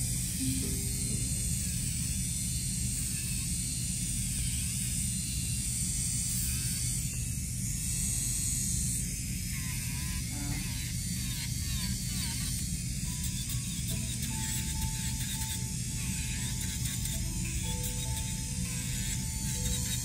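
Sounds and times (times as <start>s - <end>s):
electric nail drill whining: 0.0s - 20.0s.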